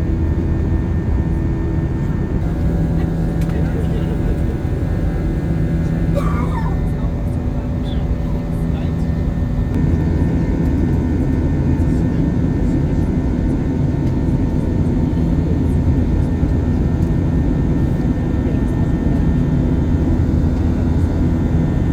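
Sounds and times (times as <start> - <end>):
jet engines droning in cabin: 0.0 - 21.9.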